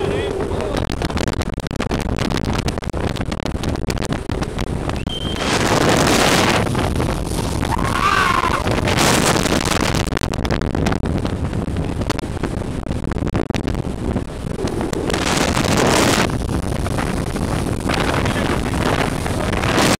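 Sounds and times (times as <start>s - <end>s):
boat engine rumble: 0.0s - 20.0s
wind buffeting microphone: 0.0s - 20.0s.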